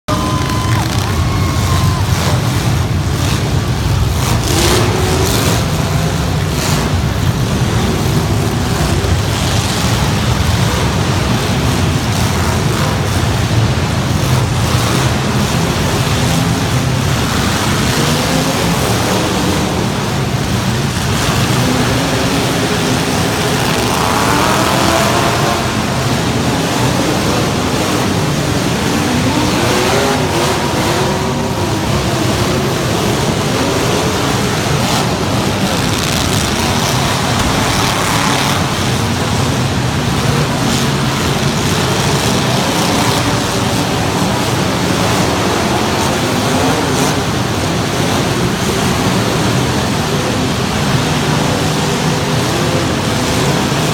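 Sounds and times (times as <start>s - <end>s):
truck engines revving: 0.0s - 53.9s.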